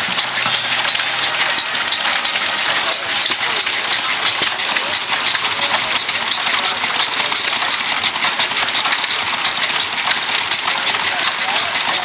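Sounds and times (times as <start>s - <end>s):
stationary gas engine running: 0.0s - 12.0s
valve gear clattering ticking: 0.0s - 12.0s.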